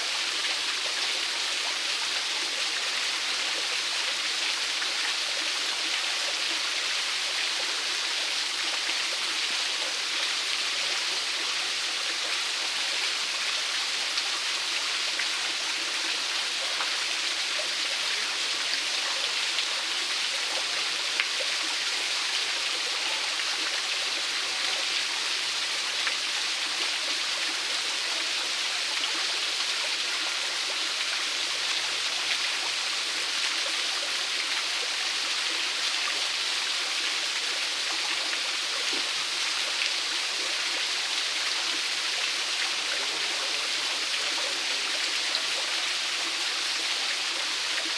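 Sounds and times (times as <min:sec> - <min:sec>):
small waterfall over rock: 0:00.0 - 0:47.9.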